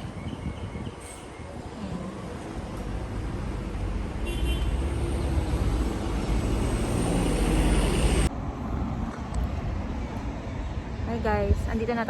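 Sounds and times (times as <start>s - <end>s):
large vehicle rumble: 1.0s - 11.6s.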